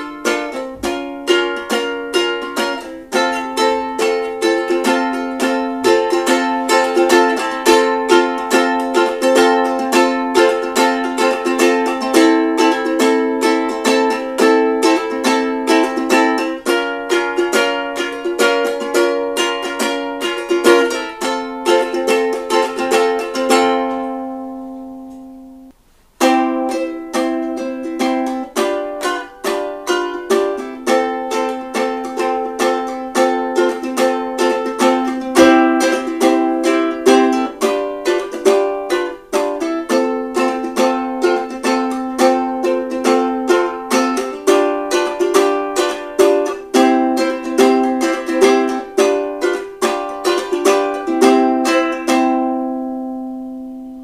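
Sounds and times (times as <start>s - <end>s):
ukulele strummed chords: 0.0s - 54.0s.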